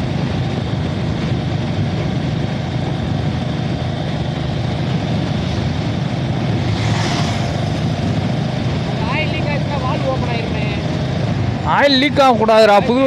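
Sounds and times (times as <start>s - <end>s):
motorcycle engine and road noise: 0.0s - 13.0s
wind rumble on microphone: 0.0s - 13.0s.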